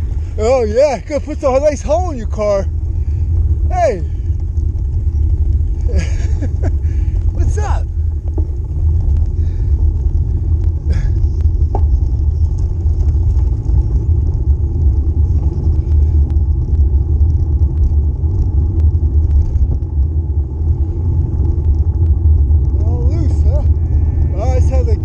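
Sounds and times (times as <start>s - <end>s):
bicycle road rumble: 0.0s - 25.0s
wind buffeting microphone: 0.0s - 25.0s.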